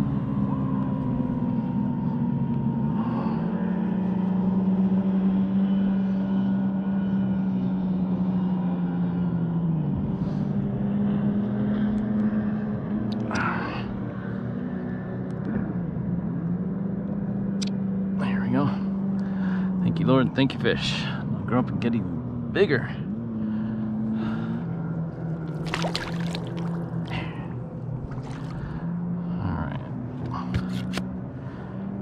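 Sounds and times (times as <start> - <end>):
distant engine droning: 0.0 - 32.0.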